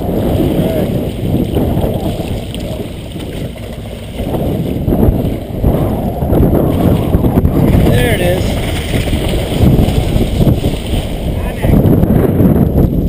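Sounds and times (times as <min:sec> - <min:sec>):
sea water rushing alongside boat: 0:00.0 - 0:13.0
wind buffeting microphone: 0:00.0 - 0:13.0.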